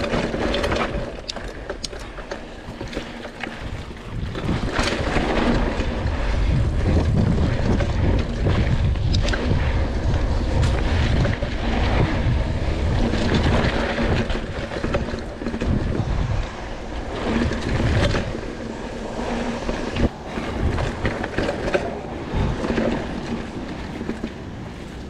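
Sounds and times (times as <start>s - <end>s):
tyres rolling over dirt: 0.0s - 25.0s
wind buffeting microphone: 0.0s - 25.0s.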